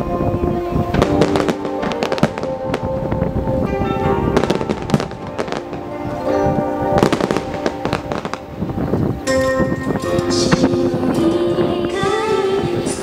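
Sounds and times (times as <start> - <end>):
background music with sustained notes: 0.0 - 13.0
fireworks bursting with sharp bangs: 0.7 - 13.0.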